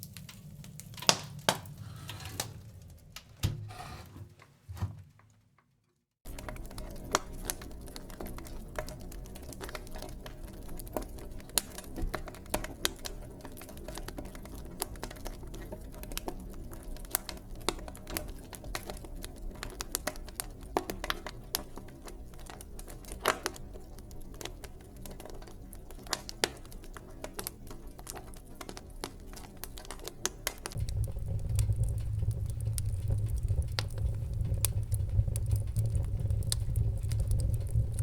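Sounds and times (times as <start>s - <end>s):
wood fire crackling and popping: 0.0s - 3.4s, 6.2s - 38.0s
low rumble of flames: 6.3s - 38.0s.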